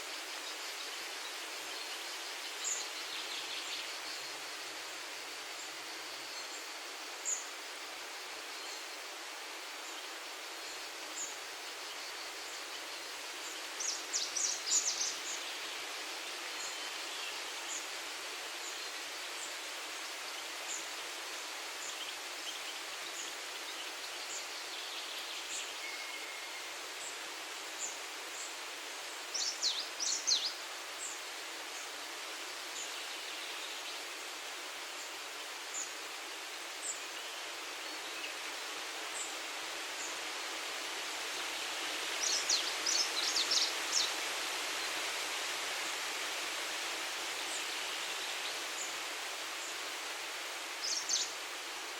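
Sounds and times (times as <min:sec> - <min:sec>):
breeze rustling leaves: 0:00.0 - 0:51.9.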